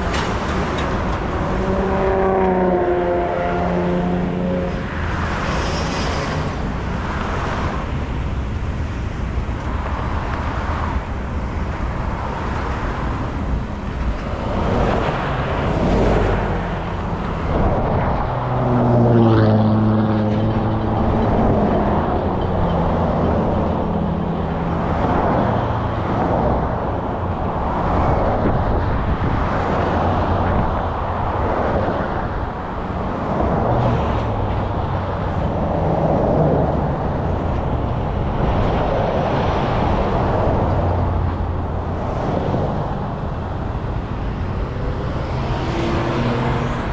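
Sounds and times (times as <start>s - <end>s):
vehicle passing close: 0.0s - 8.4s, 12.2s - 46.9s
freight train moving: 0.0s - 46.9s
road traffic rumble: 0.0s - 46.9s.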